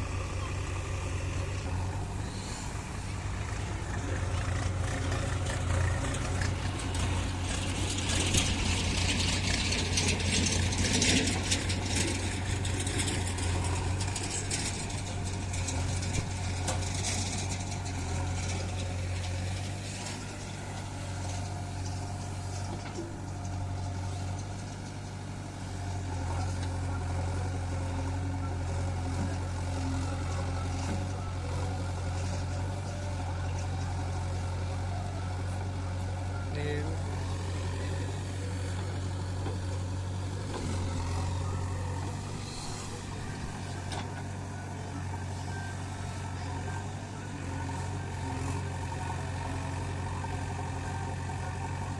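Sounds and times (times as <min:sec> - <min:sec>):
diesel engine droning: 0:00.0 - 0:51.9.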